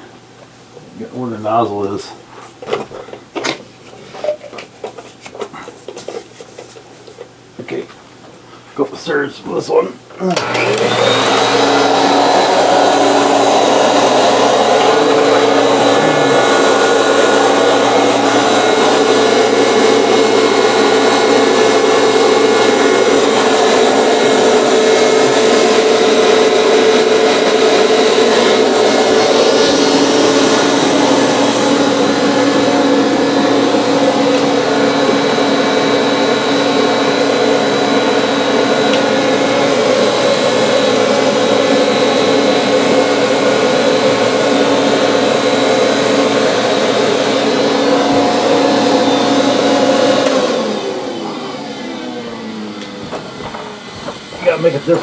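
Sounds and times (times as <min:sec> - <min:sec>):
vacuum cleaner motor whine: 0:10.2 - 0:55.0.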